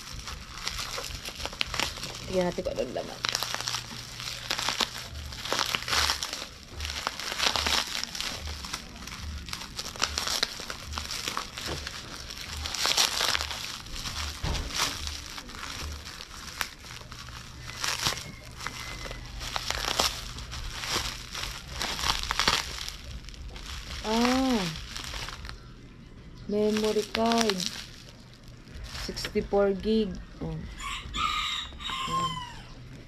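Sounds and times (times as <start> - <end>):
bubble wrap crinkling: 0.0 - 33.0.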